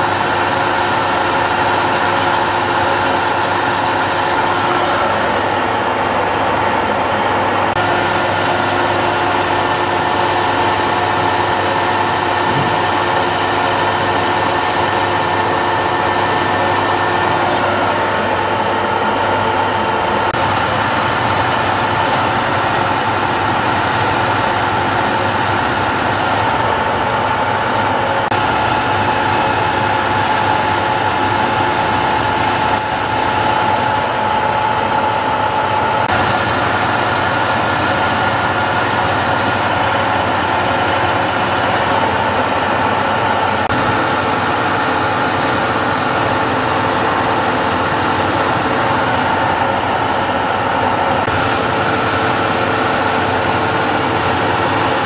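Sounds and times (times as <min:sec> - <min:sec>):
milling machine whining: 0:00.0 - 0:55.0.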